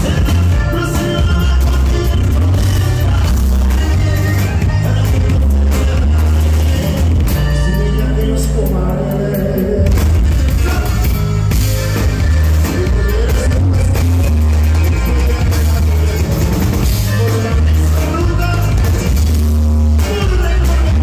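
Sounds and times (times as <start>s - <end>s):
heavy bass line: 0.0s - 21.0s
live band music: 0.0s - 21.0s.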